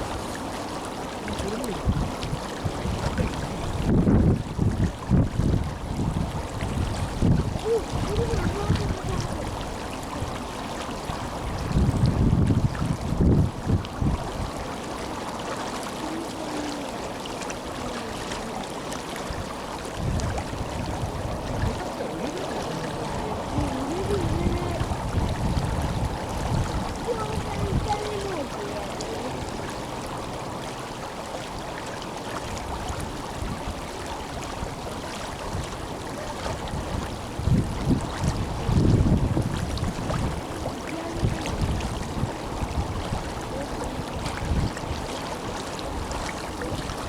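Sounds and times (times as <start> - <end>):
river water rushing: 0.0 - 47.0
wind buffeting microphone: 0.0 - 47.0.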